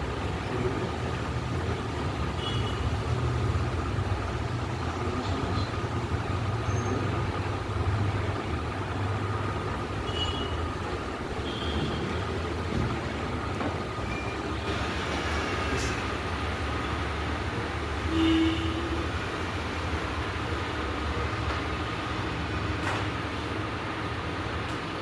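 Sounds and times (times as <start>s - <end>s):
low rumbling background noise: 0.0s - 25.0s.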